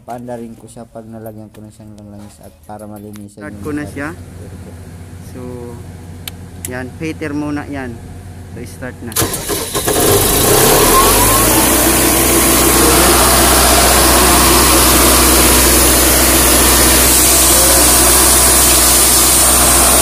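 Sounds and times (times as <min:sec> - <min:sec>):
diesel engine running: 0:03.5 - 0:20.0.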